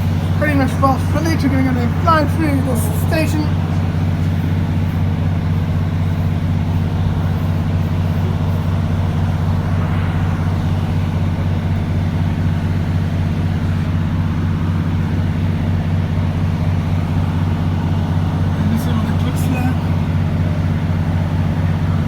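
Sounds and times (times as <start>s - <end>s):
train engine drone: 0.0s - 22.0s
train wheels rumbling on track: 0.0s - 22.0s.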